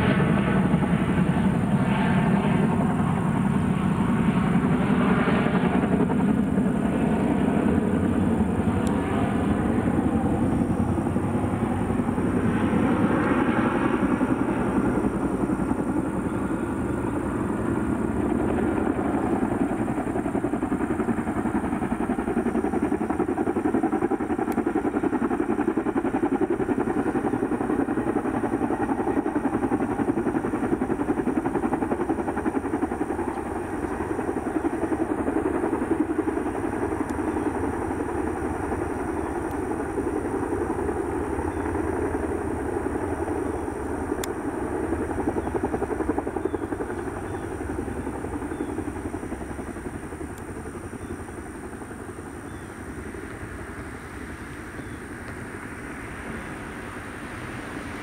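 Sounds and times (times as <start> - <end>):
helicopter rotors pulsing: 0.0 - 58.0.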